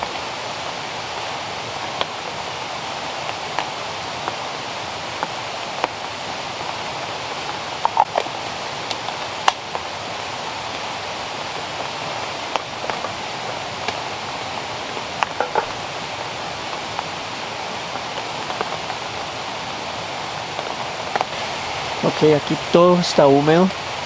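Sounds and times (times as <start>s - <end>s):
water hissing: 0.0s - 24.0s.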